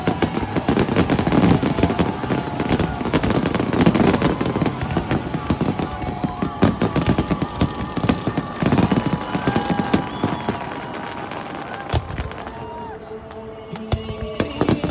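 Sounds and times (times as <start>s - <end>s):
fireworks bangs and crackling: 0.0s - 13.0s, 13.7s - 14.9s.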